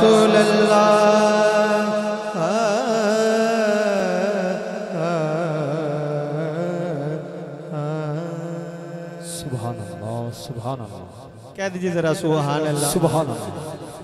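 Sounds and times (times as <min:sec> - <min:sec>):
man singing melismatic note: 0:00.0 - 0:14.0.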